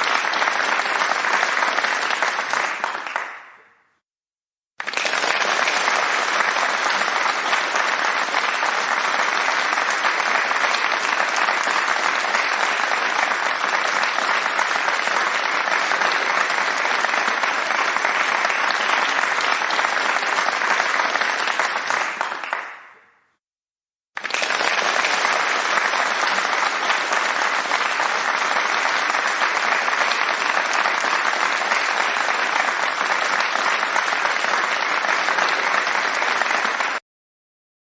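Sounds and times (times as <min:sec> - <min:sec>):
crowd applause: 0:00.0 - 0:03.6, 0:04.8 - 0:23.0, 0:24.2 - 0:37.0.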